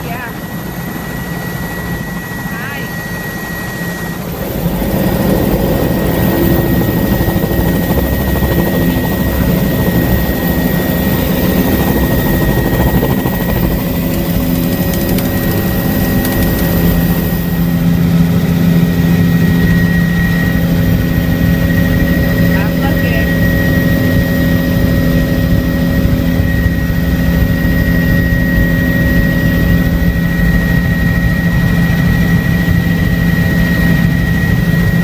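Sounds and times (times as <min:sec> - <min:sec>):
helicopter engine and rotor: 0:00.0 - 0:35.0.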